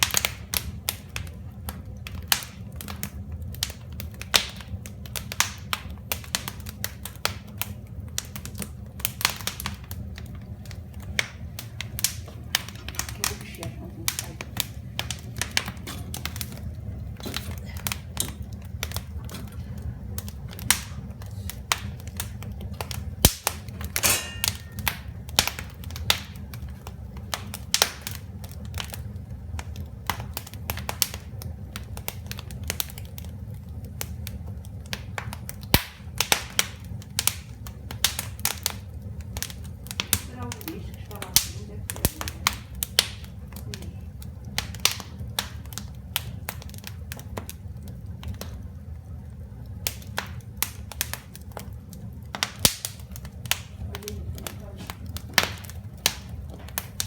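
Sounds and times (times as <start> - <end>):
fireplace fire crackling: 0.0 - 57.0
low fire rumble: 0.0 - 57.0.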